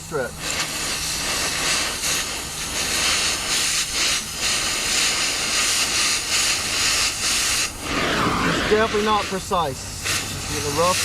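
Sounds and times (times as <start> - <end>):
cutting torch hissing: 0.0 - 11.0.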